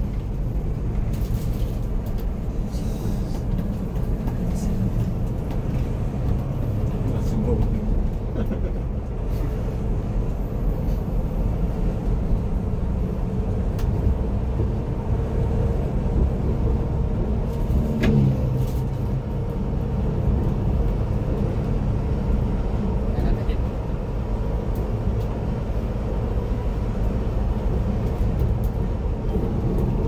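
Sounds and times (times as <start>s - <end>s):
bus engine and tyres rumbling: 0.0s - 30.0s.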